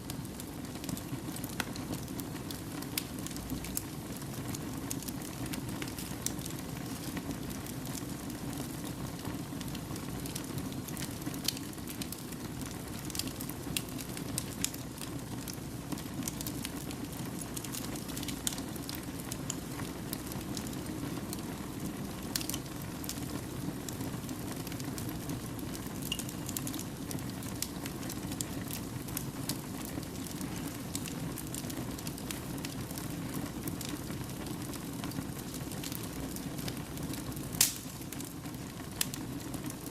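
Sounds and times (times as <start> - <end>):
fire burning in a fireplace: 0.0 - 39.9
fire crackles and pops: 0.0 - 39.9.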